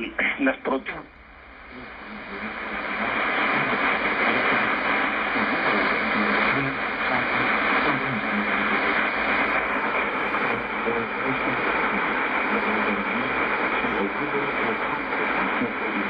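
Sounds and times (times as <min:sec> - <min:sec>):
faint broadcast voice: 0:00.0 - 0:01.1, 0:01.7 - 0:16.0
radio static and hiss: 0:00.0 - 0:16.0.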